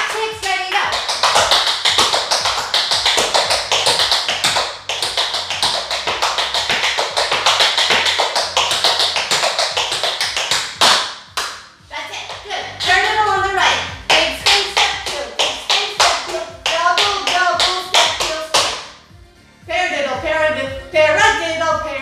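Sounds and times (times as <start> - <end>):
tap shoes on hard floor: 0.1 - 18.9.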